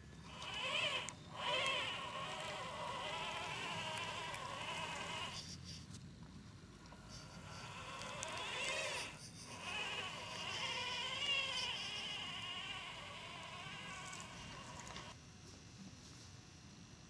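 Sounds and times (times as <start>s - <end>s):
small electric motors whining: 0.0s - 6.0s, 6.6s - 15.2s.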